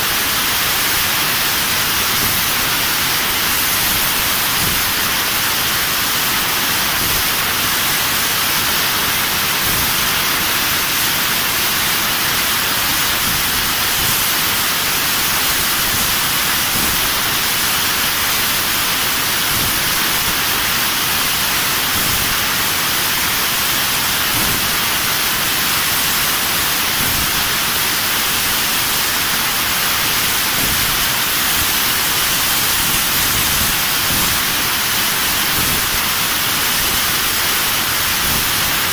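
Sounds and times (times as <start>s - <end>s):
laser cutter hissing: 0.1s - 38.9s.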